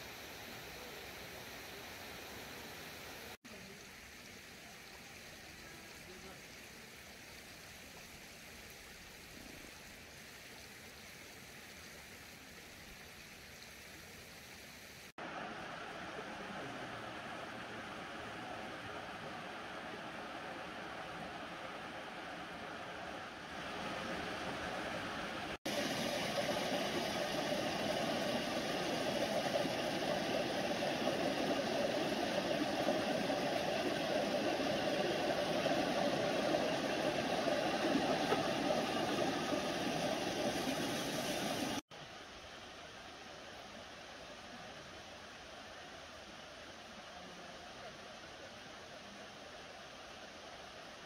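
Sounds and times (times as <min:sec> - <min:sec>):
stream water flowing: 0:00.0 - 0:51.0.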